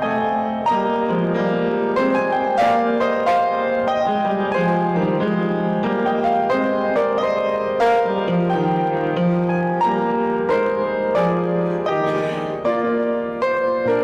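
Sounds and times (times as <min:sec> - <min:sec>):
solo piano melody: 0:00.0 - 0:14.0.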